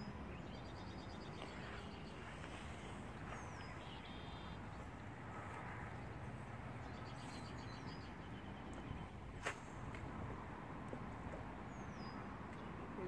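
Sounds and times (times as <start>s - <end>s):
songbirds calling: 0.0s - 13.0s.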